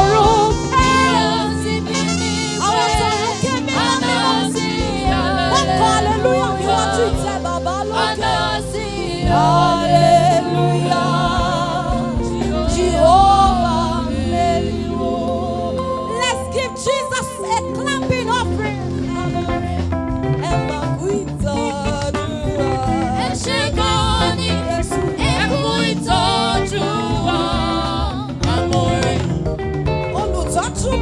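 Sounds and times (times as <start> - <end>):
choir singing gospel music: 0.0 - 31.0.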